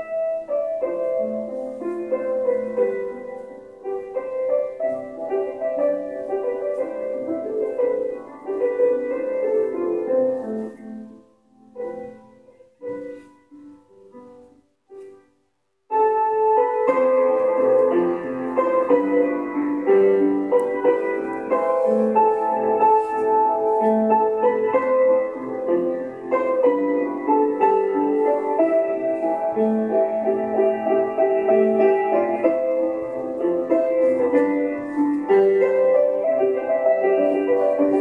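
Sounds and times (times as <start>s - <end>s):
solo piano music: 0.0s - 38.0s.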